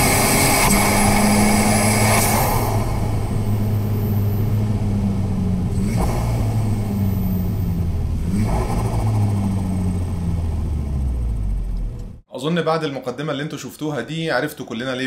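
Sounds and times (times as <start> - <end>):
car engine pulling under power: 0.0 - 12.2.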